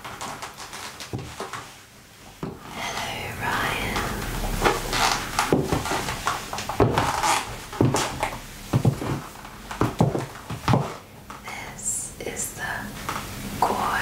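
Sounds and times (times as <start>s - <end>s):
satin fabric rustling: 0.0s - 11.4s.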